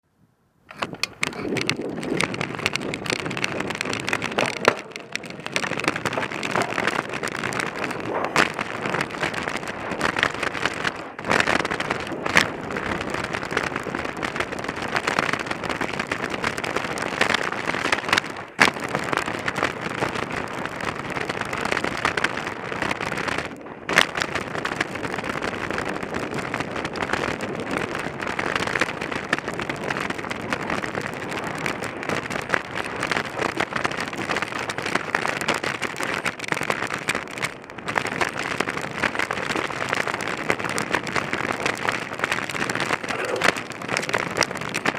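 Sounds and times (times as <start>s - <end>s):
bike knocking on rocks: 0.7s - 20.6s, 28.7s - 44.9s
bike tyres crackling over dirt: 0.7s - 44.9s.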